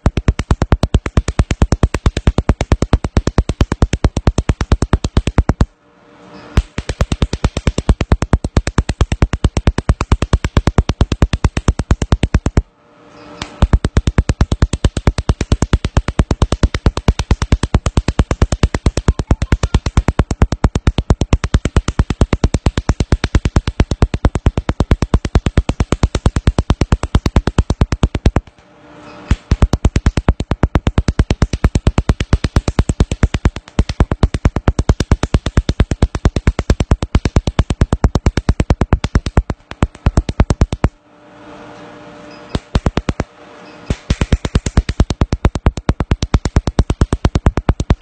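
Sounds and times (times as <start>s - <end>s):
laser snapping pulses: 0.0s - 5.7s, 6.5s - 12.7s, 13.4s - 41.0s, 42.5s - 48.0s
machine hum: 0.0s - 48.0s.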